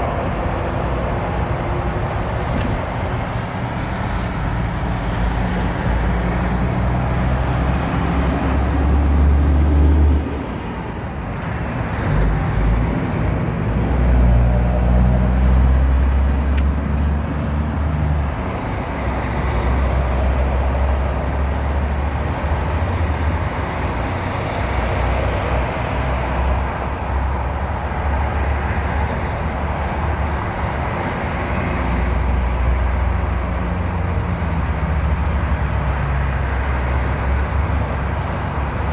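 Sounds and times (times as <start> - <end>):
heavy trucks rumbling: 0.0 - 38.9.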